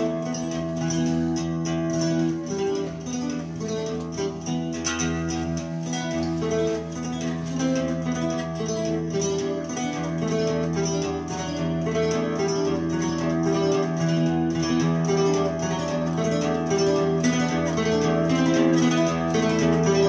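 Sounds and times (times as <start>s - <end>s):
plucked acoustic guitar music: 0.0s - 20.0s.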